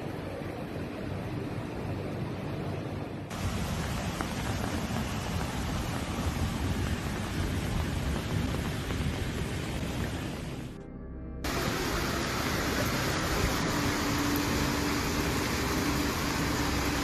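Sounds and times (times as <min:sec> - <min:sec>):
heavy rainstorm hiss: 0:00.0 - 0:10.8, 0:11.4 - 0:17.0.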